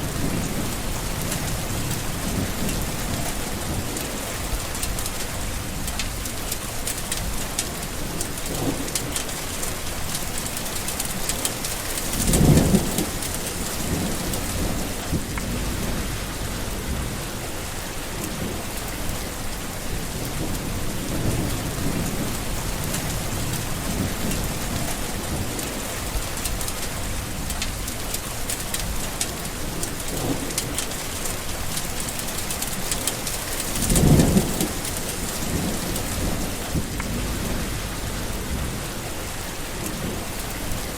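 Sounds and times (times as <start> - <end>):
thunder rumbling: 0.0 - 6.5, 7.1 - 31.7, 32.4 - 40.9
steady rain falling: 0.0 - 40.9.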